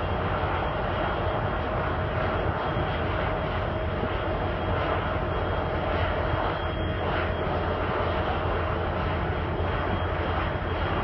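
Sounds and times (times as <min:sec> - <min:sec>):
faint steady tone: 0:00.0 - 0:11.0
wind noise: 0:00.0 - 0:11.0.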